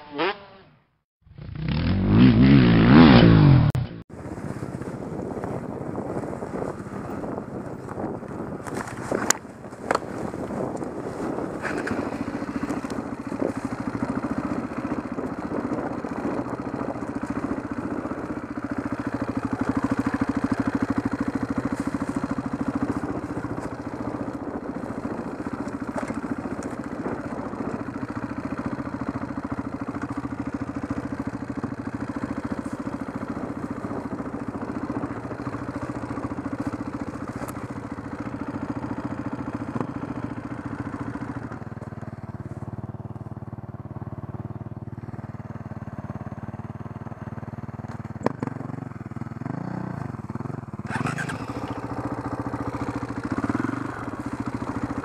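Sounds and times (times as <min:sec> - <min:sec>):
motorcycle engine running: 0:00.0 - 0:55.0
motorcycle knocks and rattles: 0:03.7 - 0:55.0.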